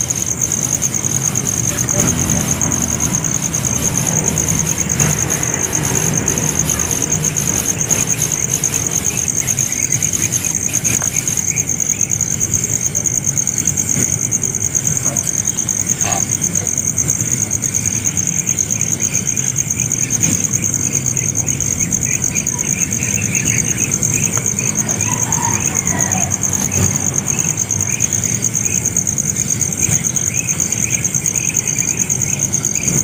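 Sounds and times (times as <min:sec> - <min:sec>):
high-pitched insect trill: 0:00.0 - 0:33.0.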